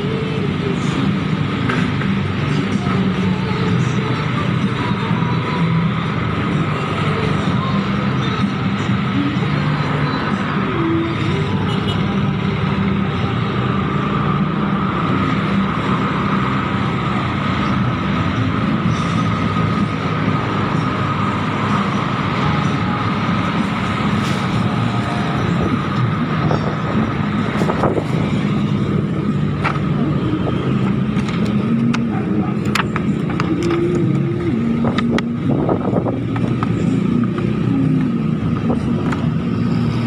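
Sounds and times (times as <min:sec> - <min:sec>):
hum of scooters and traffic: 0:00.0 - 0:40.0.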